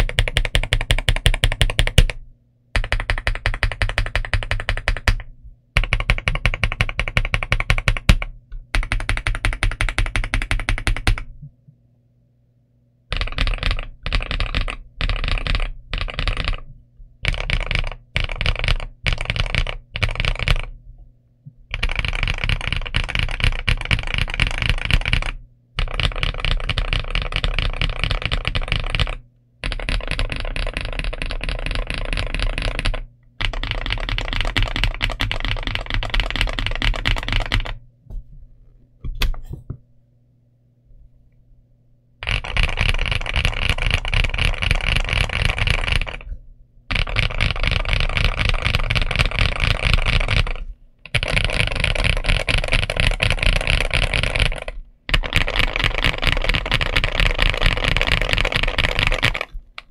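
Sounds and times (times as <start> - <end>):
mechanical keyboard typing: 0.0 - 2.2, 2.8 - 11.3, 13.1 - 20.7, 21.7 - 37.8, 42.2 - 59.9.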